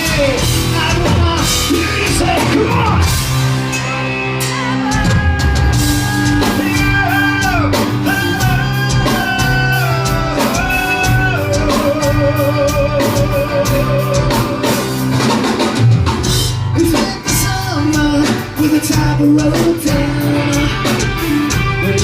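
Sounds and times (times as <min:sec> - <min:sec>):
drum kit: 0:00.0 - 0:22.0.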